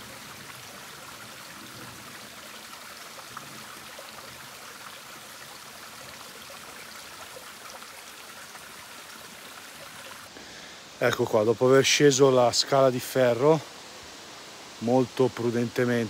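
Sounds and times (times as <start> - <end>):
stream trickling over rock: 0.0 - 16.0.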